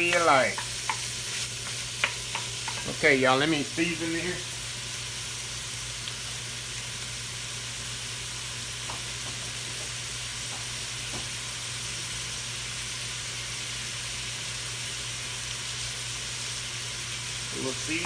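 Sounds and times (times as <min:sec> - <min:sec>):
meat sizzling in a pot: 0:00.0 - 0:18.0.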